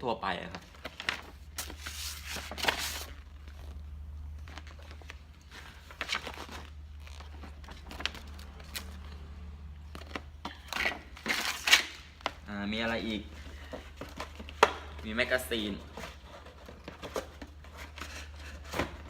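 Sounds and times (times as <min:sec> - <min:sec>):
paper and plastic packaging rustling: 0:00.3 - 0:09.2, 0:09.8 - 0:19.0.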